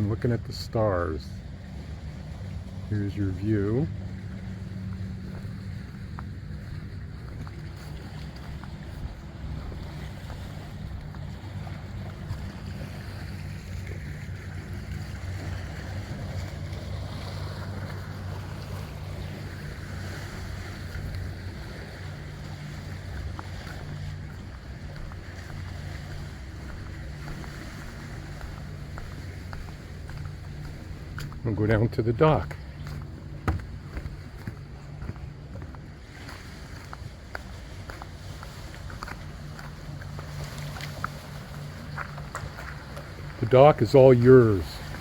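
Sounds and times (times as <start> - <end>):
motorboat engine droning: 0.0 - 45.0.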